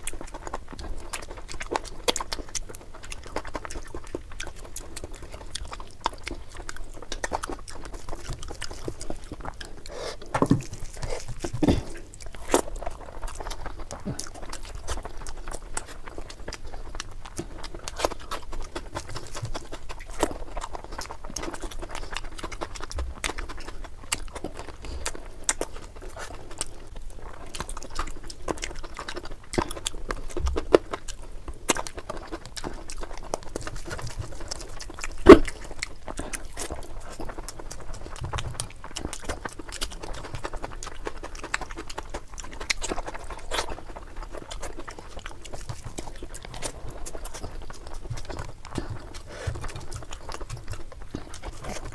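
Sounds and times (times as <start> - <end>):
person chewing and smacking lips: 0.0 - 51.9.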